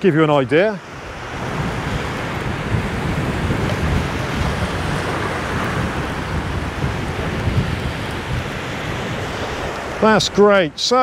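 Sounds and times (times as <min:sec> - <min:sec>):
wind buffeting microphone: 0:00.0 - 0:11.0
small waves breaking on rocks: 0:00.1 - 0:11.0.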